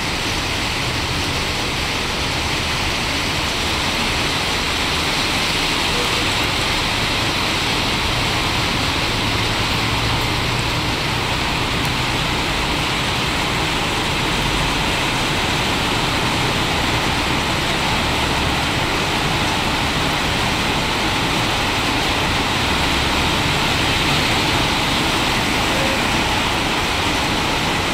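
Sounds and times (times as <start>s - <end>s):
light rain on wet pavement: 0.0s - 27.9s.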